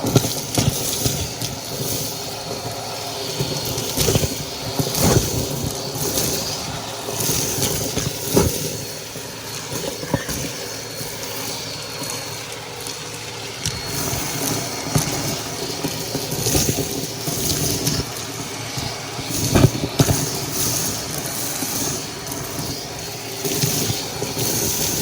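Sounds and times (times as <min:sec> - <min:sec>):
vacuum cleaner motor running: 0:00.0 - 0:25.0.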